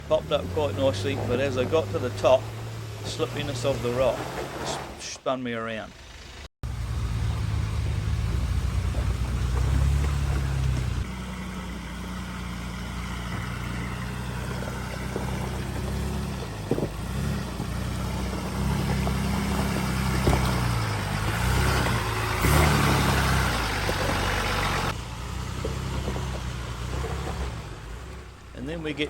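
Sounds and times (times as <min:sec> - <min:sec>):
truck engine revving: 0:00.0 - 0:05.1, 0:05.9 - 0:29.0.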